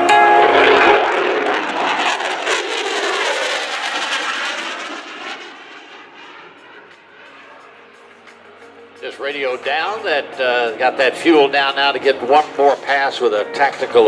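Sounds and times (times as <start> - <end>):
jet fighter roar passing: 0.0 - 14.0.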